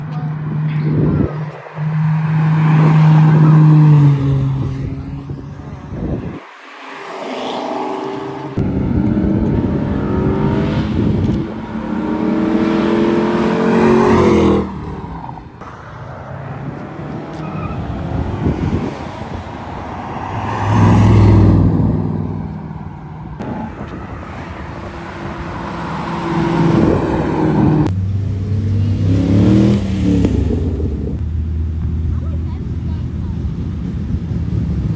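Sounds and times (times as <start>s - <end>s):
cars driving past revving: 0.0s - 34.9s.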